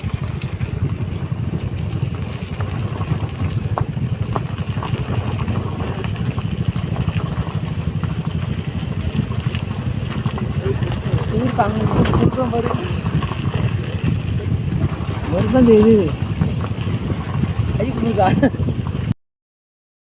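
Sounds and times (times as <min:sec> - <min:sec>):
motor scooter engine hum: 0:00.0 - 0:19.1
wind rumble on microphone: 0:00.0 - 0:19.2.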